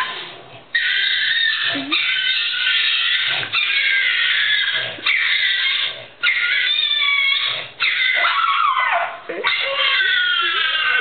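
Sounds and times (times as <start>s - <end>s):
dog screaming: 0.0s - 11.0s.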